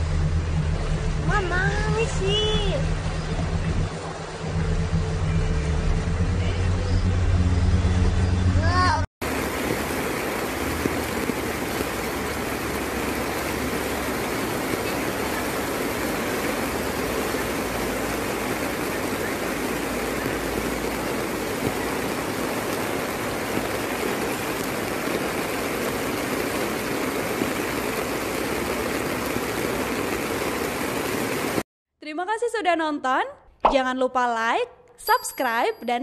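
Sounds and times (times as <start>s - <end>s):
floodwater rushing along curb: 0.0s - 6.4s, 9.2s - 31.6s
heavy rain pouring: 0.0s - 31.7s.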